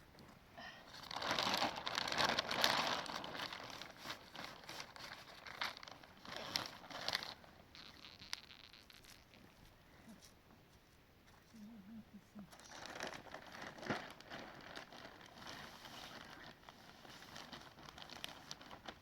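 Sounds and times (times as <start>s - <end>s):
plastic sheeting crinkling: 0.8s - 10.3s, 12.5s - 19.0s.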